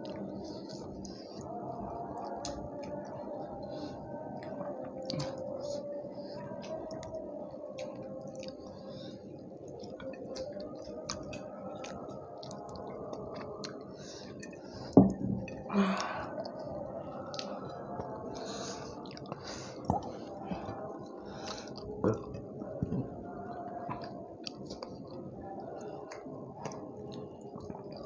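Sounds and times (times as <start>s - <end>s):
chewing and wet mouth sounds: 0.0s - 28.0s.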